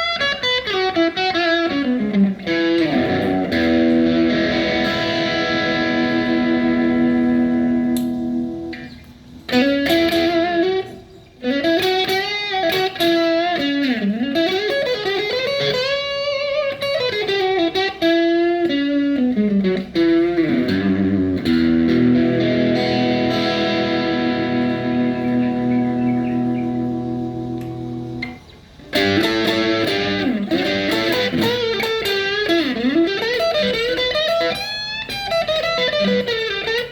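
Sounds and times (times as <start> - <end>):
electric guitar lead melody: 0.0 - 36.9.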